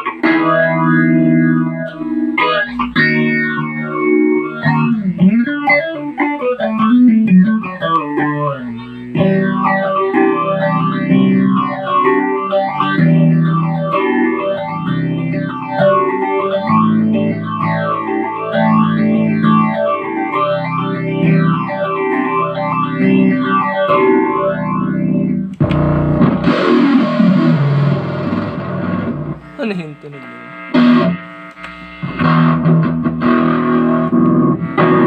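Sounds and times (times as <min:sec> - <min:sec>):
electric guitar with modulation effect: 0:00.0 - 0:35.0.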